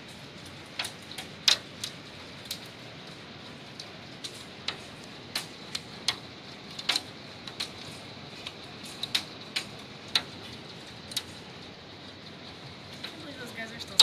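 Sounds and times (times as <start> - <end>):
hailstones striking hard surface: 0.0 - 14.0
heavy hail hissing: 0.0 - 14.0.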